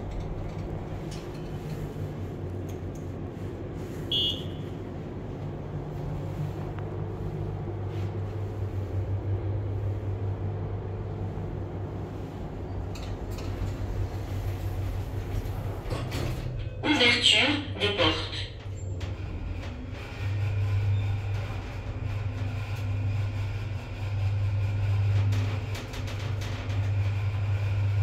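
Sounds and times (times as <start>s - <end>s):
elevator low hum: 0.0s - 28.0s.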